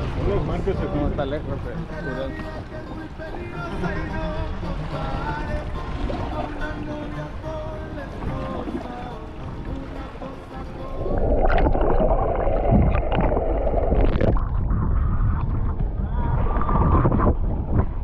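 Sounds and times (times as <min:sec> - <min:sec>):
muffled underwater water gurgling: 0:00.0 - 0:18.0.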